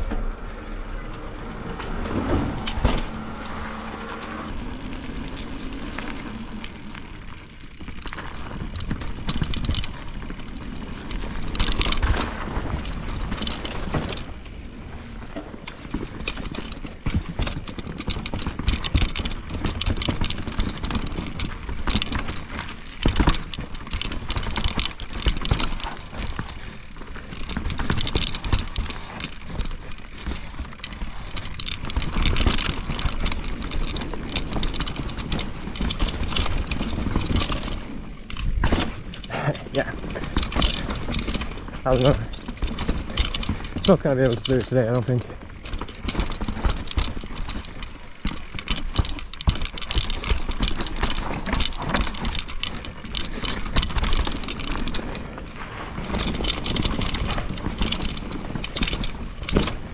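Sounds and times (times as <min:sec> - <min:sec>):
bike tyres on dirt and roots: 0:00.0 - 0:59.9
chain and frame rattling: 0:00.0 - 0:59.9
bike knocking over bumps: 0:01.6 - 0:59.9.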